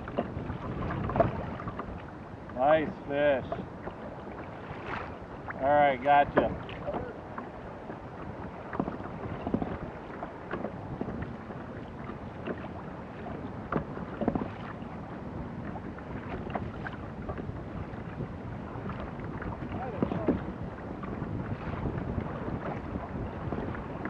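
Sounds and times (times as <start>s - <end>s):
water washing against hull: 0.0s - 24.0s
wind on microphone: 0.0s - 24.0s.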